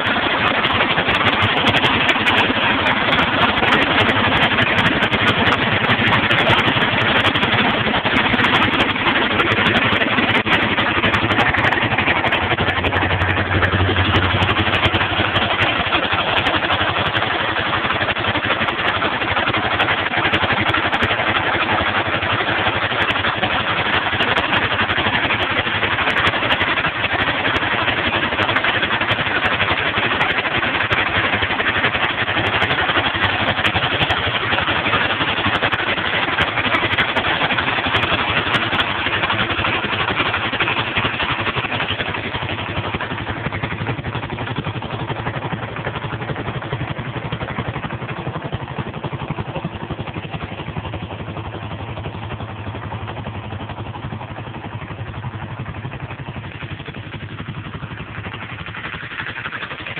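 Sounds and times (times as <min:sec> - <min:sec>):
water pump engine running: 0:00.0 - 0:59.9.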